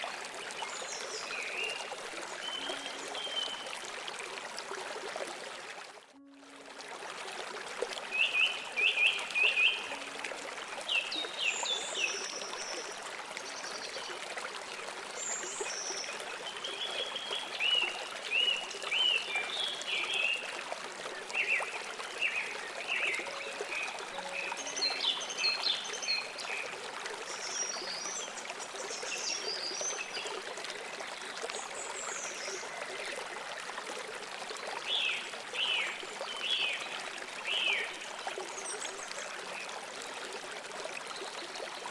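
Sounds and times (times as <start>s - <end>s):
stream flowing: 0.0s - 41.9s.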